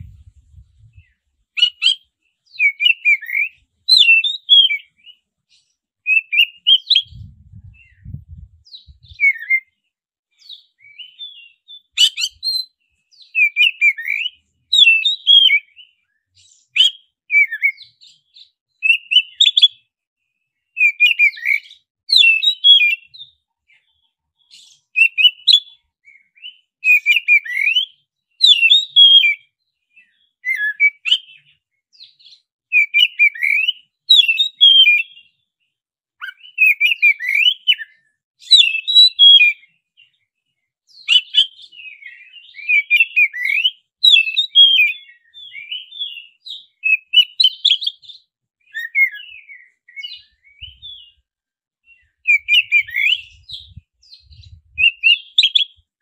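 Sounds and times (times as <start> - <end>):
bird whistling and chirping: 0.0 - 9.8, 10.4 - 19.8, 20.7 - 35.4, 36.2 - 40.2, 40.9 - 51.2, 51.8 - 55.8.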